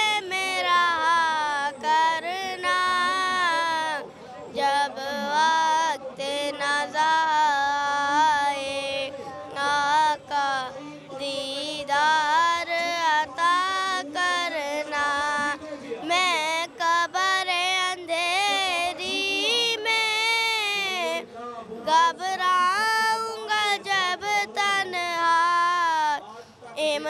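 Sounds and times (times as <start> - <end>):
boy singing: 0.0 - 21.2, 21.8 - 26.2, 26.8 - 27.0.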